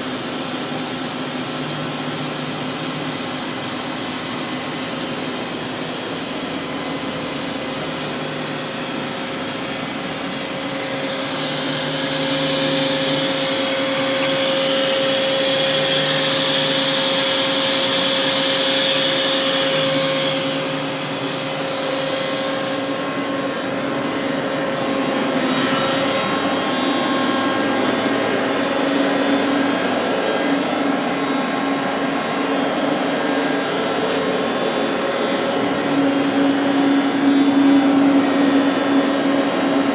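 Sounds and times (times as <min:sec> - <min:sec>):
lathe machine hum with whine: 0:00.0 - 0:39.9.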